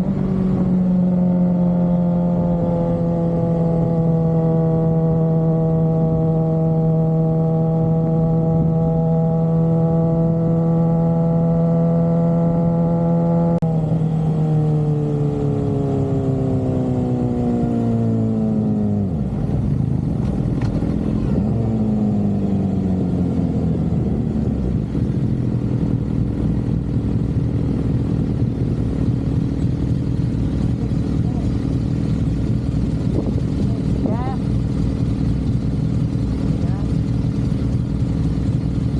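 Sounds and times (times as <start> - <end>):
motorcycle engine: 0.0 - 38.9
road and wind noise: 0.0 - 38.9.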